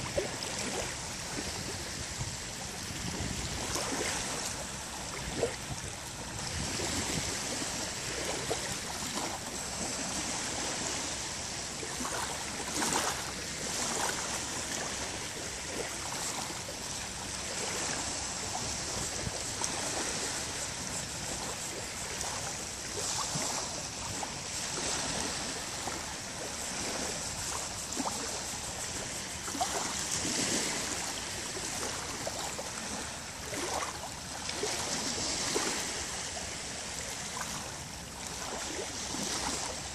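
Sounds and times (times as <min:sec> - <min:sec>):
sea waves lapping on beach: 0:00.0 - 0:39.9.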